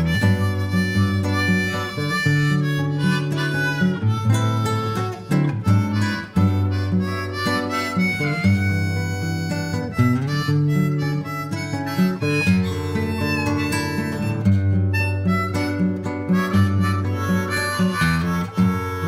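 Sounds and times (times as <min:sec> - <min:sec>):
plucked guitar: 0:00.0 - 0:19.0
reedy lead melody: 0:00.0 - 0:19.0.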